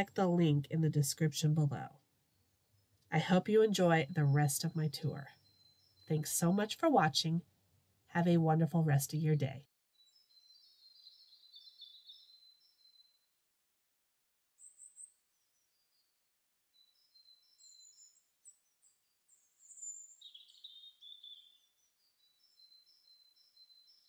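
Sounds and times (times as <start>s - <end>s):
songbirds chirping and trilling: 0.0s - 13.3s, 14.6s - 24.0s.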